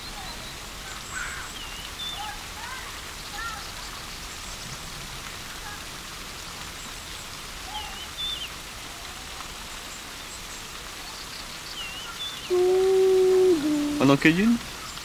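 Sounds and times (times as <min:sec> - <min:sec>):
steady background hiss: 0:02.6 - 0:15.0.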